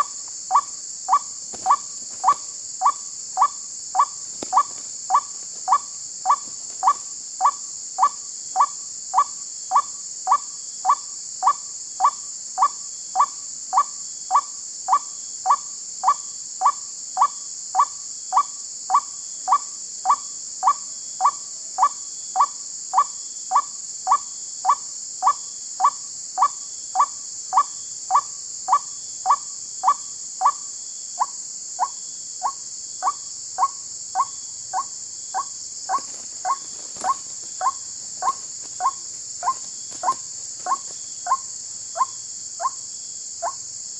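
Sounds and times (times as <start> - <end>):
steady high-pitched hiss: 0.0 - 43.9.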